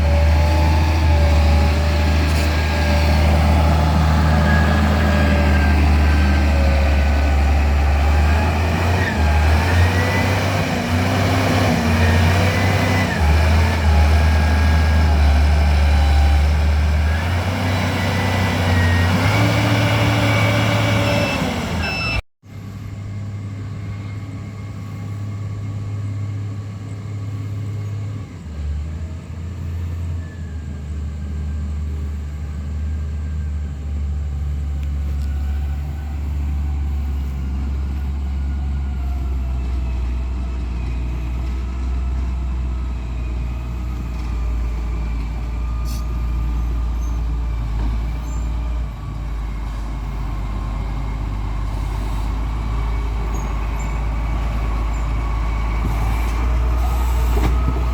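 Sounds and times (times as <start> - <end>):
heavy diesel engines running: 0.0 - 57.9.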